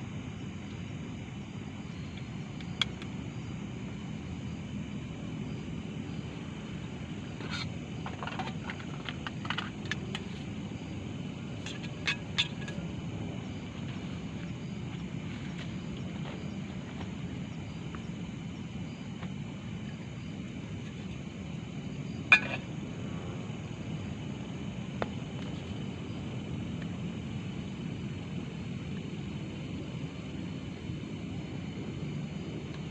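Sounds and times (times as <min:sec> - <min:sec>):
insect drone: 0:00.0 - 0:32.9.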